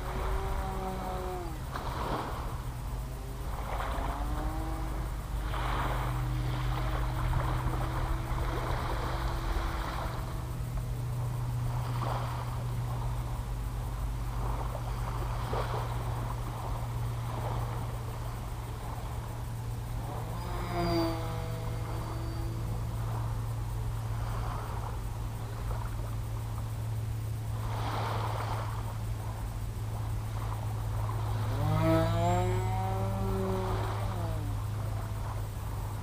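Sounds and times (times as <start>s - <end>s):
propeller aircraft engine drone: 0.0s - 36.0s.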